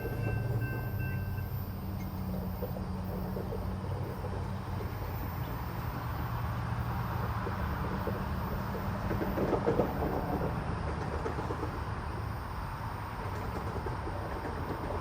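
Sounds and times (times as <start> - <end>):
train running on tracks: 0.0 - 15.0.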